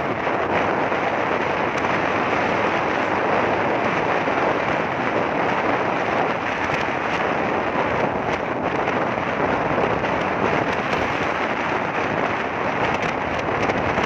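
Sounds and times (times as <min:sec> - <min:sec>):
motorcycle engine: 0:00.0 - 0:14.0
road noise: 0:00.0 - 0:14.0
wind buffeting microphone: 0:00.0 - 0:14.0.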